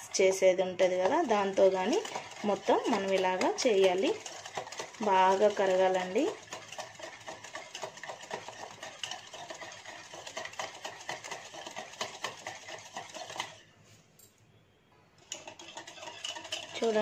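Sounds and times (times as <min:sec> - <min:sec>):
whisk clicking against bowl: 0:00.0 - 0:13.6, 0:15.2 - 0:17.0.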